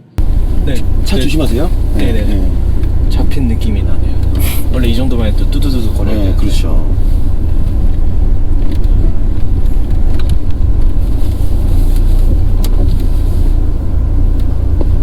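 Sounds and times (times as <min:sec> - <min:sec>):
car rumbling while rolling slowly: 0:00.0 - 0:15.0.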